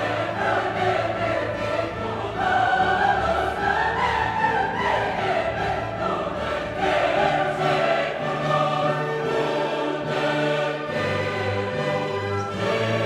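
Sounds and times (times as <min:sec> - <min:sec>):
choir singing with orchestra: 0:00.0 - 0:13.0.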